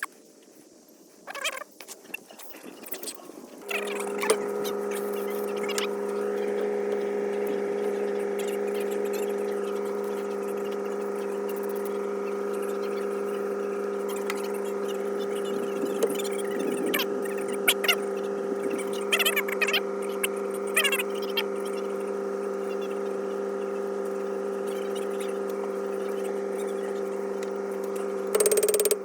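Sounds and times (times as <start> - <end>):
machine humming: 3.6 - 29.0.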